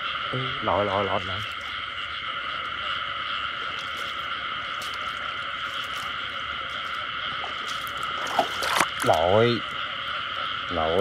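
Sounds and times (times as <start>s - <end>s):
chorus of frogs calling: 0.0s - 11.0s.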